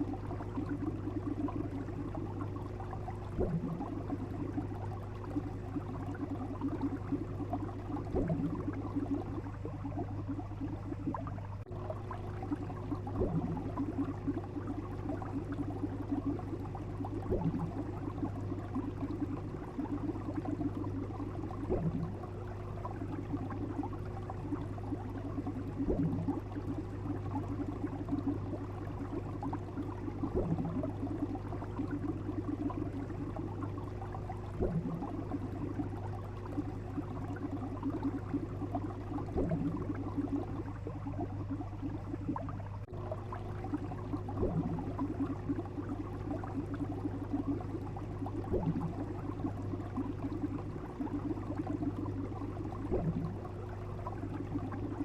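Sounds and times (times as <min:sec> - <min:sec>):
faint liquid bubbling: 0:00.0 - 0:55.0
steady low hum: 0:00.0 - 0:55.0.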